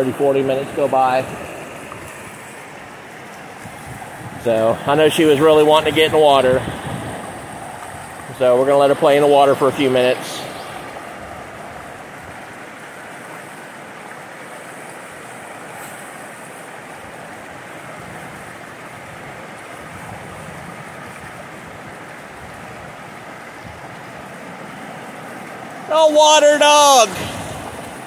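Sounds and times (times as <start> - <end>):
river rushing over cascades: 0.0 - 28.0.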